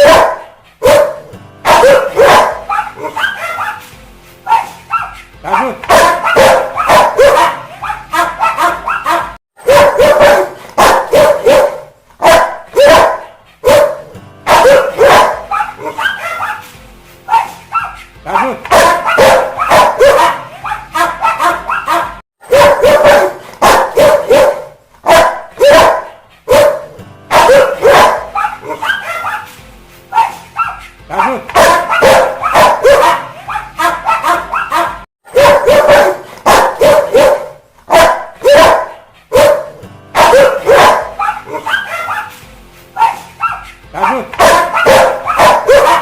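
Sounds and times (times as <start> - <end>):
dog barking: 0.0 - 3.9, 4.5 - 16.7, 17.3 - 29.5, 30.1 - 42.4, 43.0 - 46.0.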